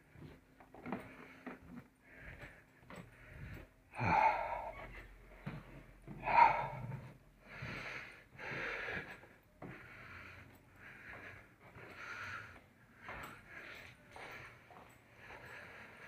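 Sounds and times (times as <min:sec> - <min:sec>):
person breathing heavily: 0:00.1 - 0:16.0.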